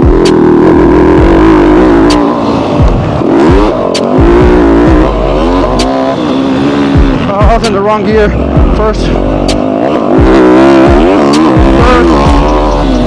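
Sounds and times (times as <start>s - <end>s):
sharp ticks: 0.0s - 6.2s, 6.8s - 13.0s
dirt bike engine at full throttle: 0.0s - 13.0s.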